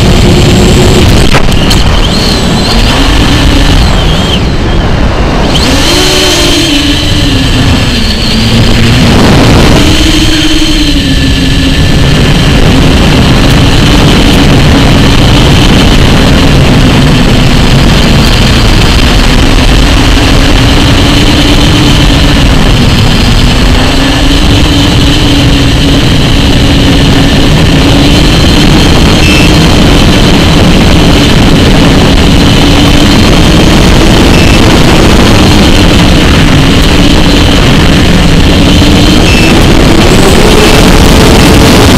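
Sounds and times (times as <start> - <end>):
model aircraft motor humming: 0.0 - 41.9
wind rush on microphone: 0.0 - 41.9.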